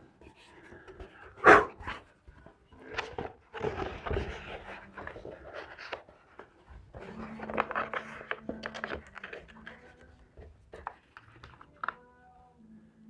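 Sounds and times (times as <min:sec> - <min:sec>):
paper rustling: 0:00.3 - 0:12.2.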